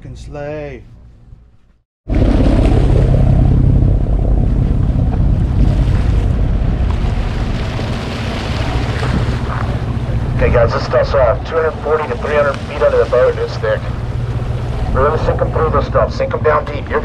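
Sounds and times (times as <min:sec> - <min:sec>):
boat engine rumble: 0:00.0 - 0:17.0
sea: 0:02.1 - 0:17.0
wind buffeting microphone: 0:02.1 - 0:17.0.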